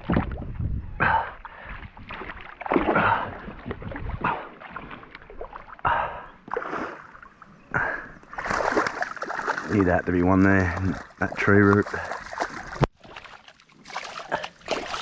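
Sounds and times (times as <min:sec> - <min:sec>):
paddle strokes splashing in water: 0:01.5 - 0:15.0.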